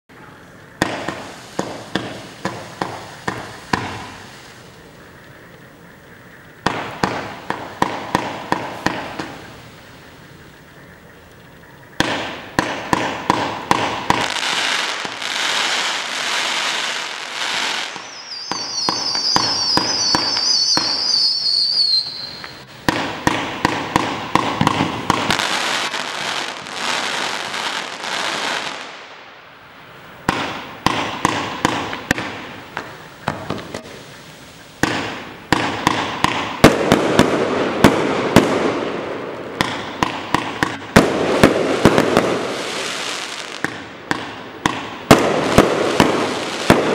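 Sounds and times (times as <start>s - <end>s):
firework high whistling: 0.1s - 46.9s
firework volleys of shots: 0.2s - 29.2s, 29.9s - 46.9s
firework crackling hiss: 0.2s - 46.9s.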